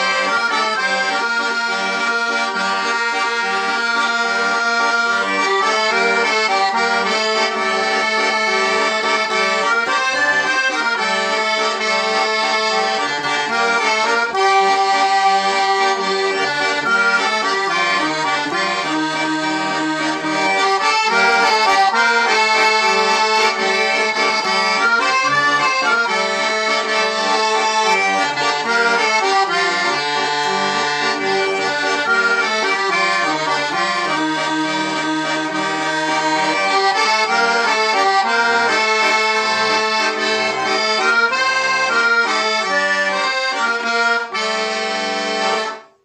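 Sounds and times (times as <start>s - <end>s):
button accordion playing: 0.0s - 46.0s.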